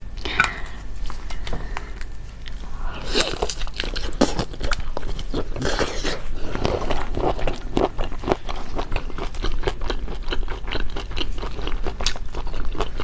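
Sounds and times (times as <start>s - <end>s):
person biting and chewing food: 1.2s - 13.0s.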